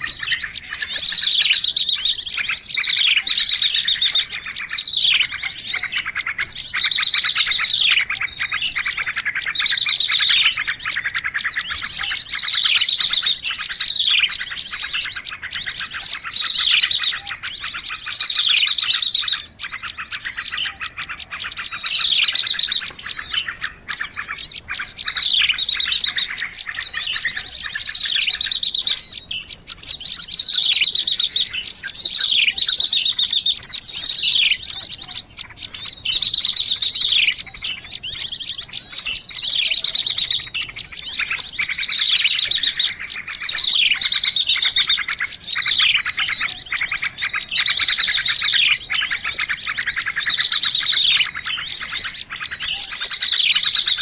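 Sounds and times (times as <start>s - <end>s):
small songbirds chirping and trilling: 0.0s - 54.0s.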